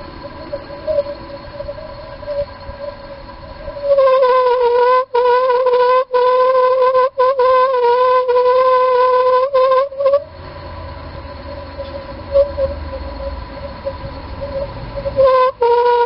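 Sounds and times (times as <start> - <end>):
heater whistling hoot: 0.0 - 16.0.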